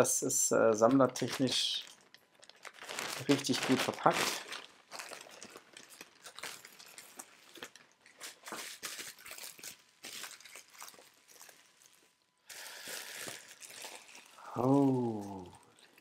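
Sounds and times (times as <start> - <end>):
packaging rustling and crinkling: 0.8 - 16.0.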